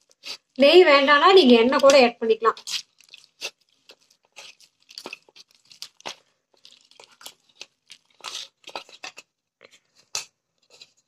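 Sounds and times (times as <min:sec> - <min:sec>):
hands kneading dough in a bowl: 0:00.0 - 0:11.0.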